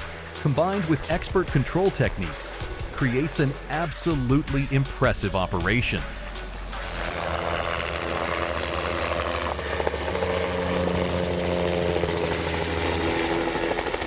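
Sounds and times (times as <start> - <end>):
helicopter engine tone: 0.0 - 14.0
helicopter rotor chop: 0.0 - 14.0.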